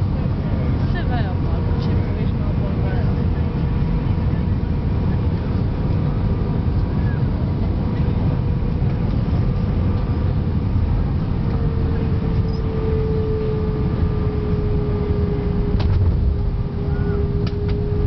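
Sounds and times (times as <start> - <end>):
airplane cabin rumble: 0.0 - 18.0
steady engine tone: 0.0 - 18.0.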